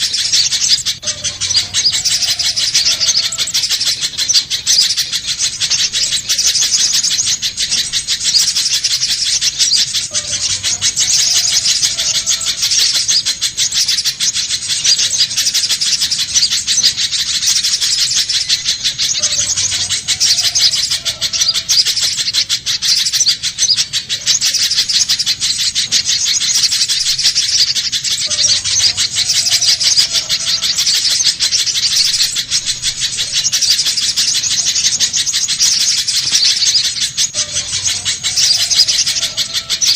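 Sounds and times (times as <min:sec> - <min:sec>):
faint lower bird call: 0:00.0 - 0:39.9
recorded bird song chirping: 0:00.0 - 0:39.9.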